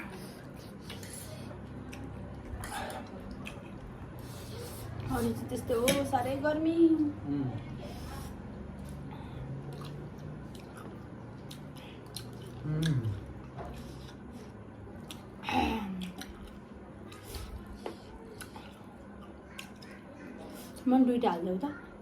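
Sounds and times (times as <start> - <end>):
people chewing food: 0.0 - 5.6, 7.2 - 20.9.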